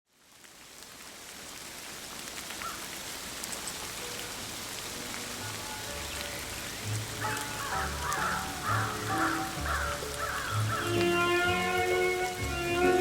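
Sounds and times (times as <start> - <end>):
hiss of falling precipitation: 0.1 - 13.0.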